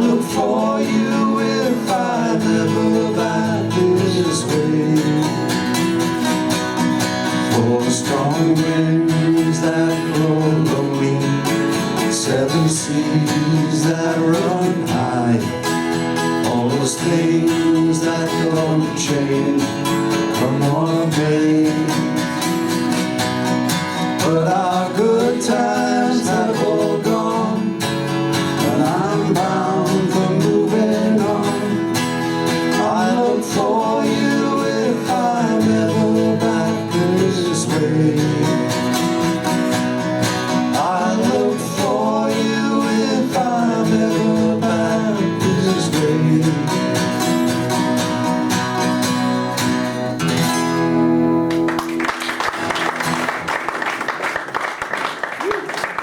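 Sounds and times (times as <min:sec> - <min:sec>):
strummed acoustic guitars: 0:00.0 - 0:56.0.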